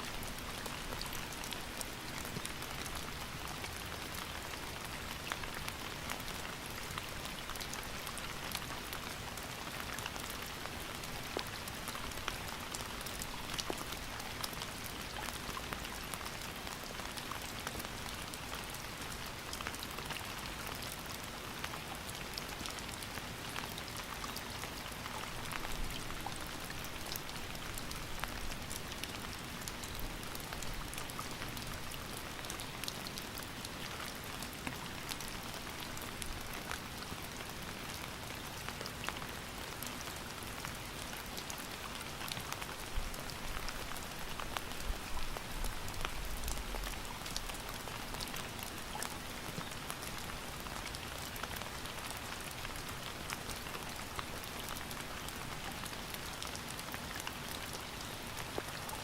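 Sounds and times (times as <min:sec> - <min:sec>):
raindrops ticking on a surface: 0:00.0 - 0:59.0
steady rain: 0:00.0 - 0:59.0.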